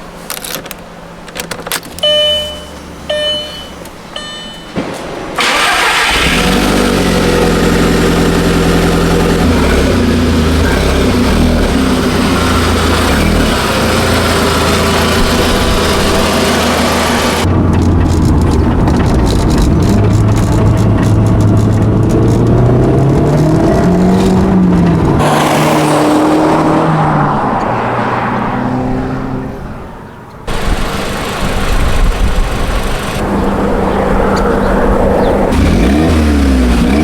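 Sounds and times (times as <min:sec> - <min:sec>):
car engine revving: 0:04.8 - 0:29.7, 0:30.5 - 0:37.0.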